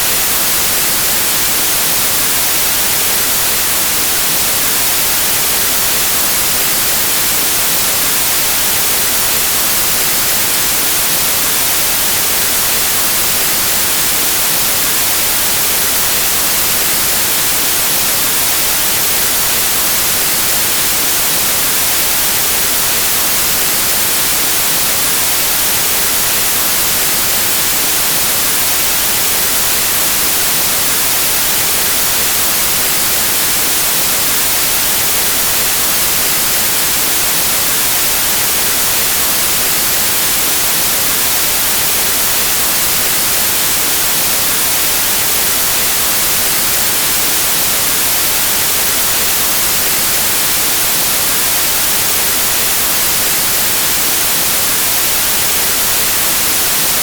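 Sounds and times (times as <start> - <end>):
white noise static hiss: 0.0 - 57.0.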